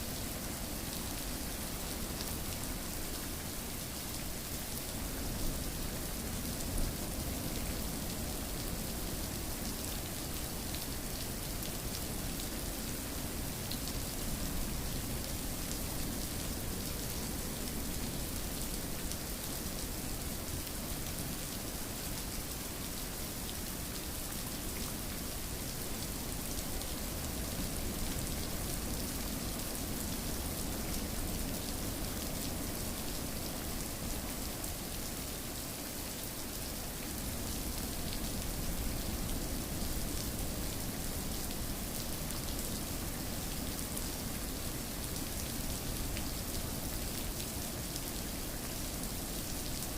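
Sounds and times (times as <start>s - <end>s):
rain falling on a surface: 0.0s - 49.9s.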